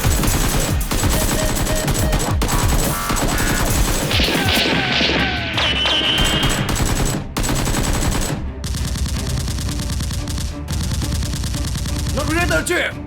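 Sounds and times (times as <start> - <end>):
automatic gunfire bursts: 0.0 - 4.6, 6.2 - 12.5
background music: 0.0 - 13.0.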